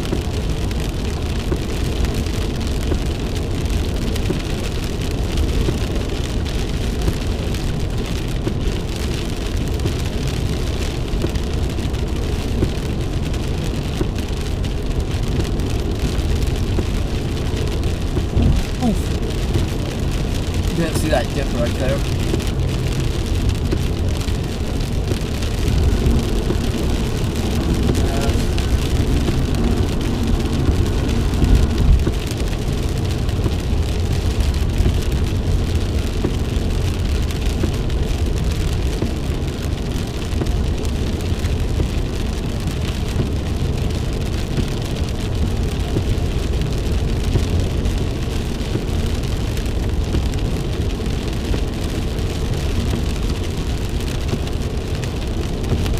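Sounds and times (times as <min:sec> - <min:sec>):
rain hitting vehicle: 0:00.0 - 0:55.9
road and engine rumble: 0:00.0 - 0:55.9.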